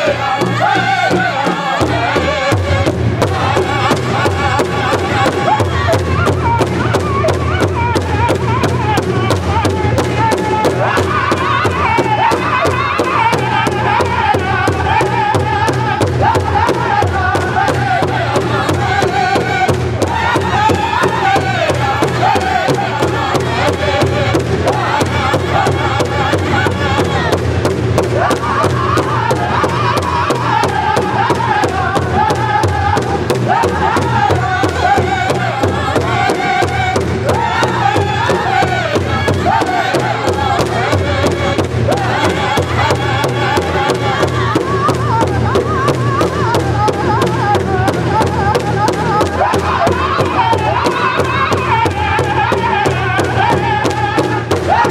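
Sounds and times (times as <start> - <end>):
drum group singing: 0.0 - 54.9
large drum steady beat: 0.0 - 54.9
women's voices singing: 0.0 - 54.9.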